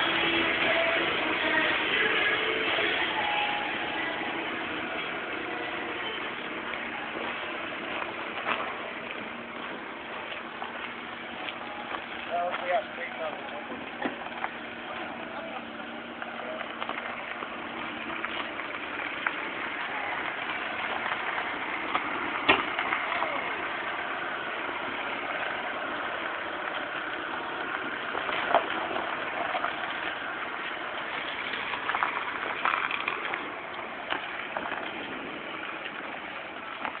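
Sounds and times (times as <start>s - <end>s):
gravel clicks: 0.0s - 37.0s
low engine: 0.0s - 37.0s
tyres hissing on gravel: 0.0s - 37.0s.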